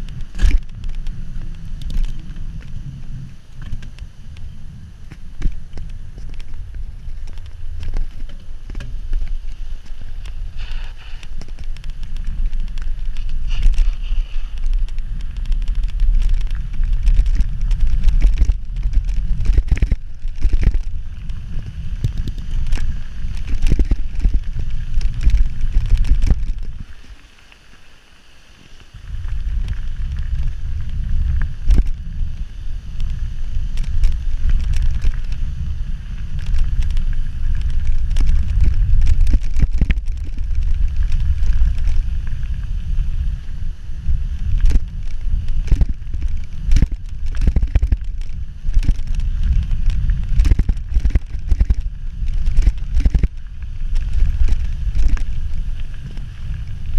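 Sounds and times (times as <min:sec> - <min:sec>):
wind buffeting microphone: 0:00.0 - 0:27.0, 0:28.9 - 0:56.9
bike clicking and rattling: 0:00.0 - 0:56.9.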